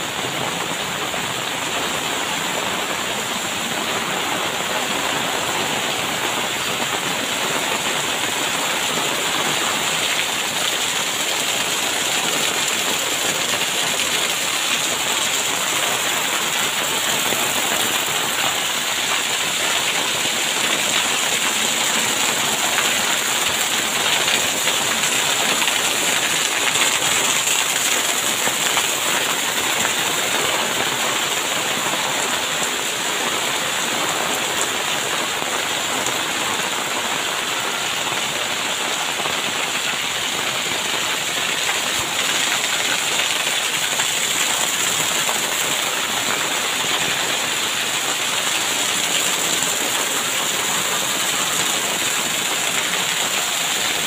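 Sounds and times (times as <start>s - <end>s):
heavy rain on pavement: 0.0s - 54.0s.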